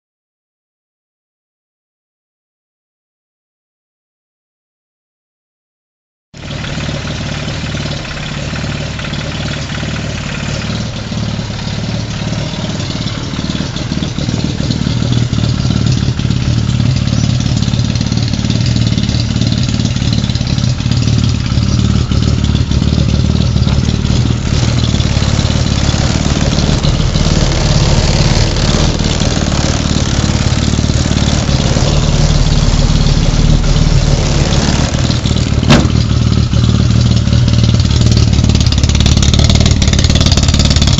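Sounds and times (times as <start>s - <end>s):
car engine running: 6.4s - 40.9s.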